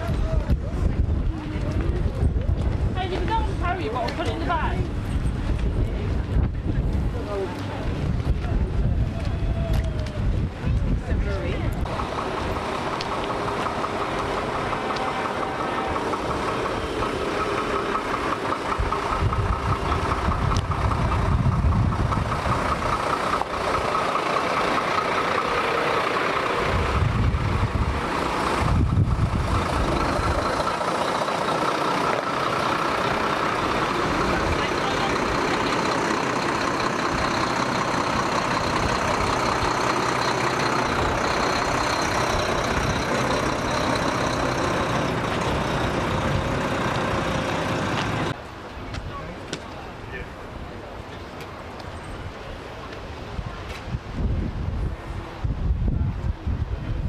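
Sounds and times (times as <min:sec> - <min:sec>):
lorry diesel engine running: 0:00.0 - 0:48.4.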